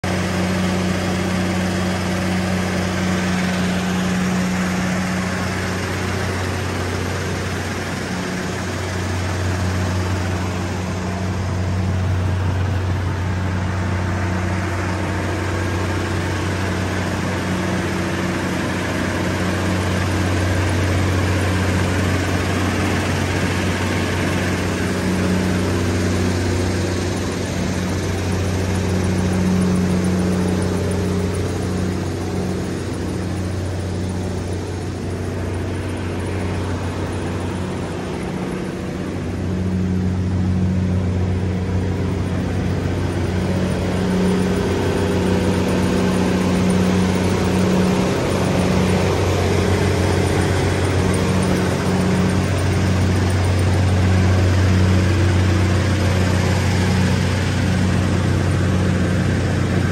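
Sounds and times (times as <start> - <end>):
crusher diesel engine humming: 0.0 - 59.9.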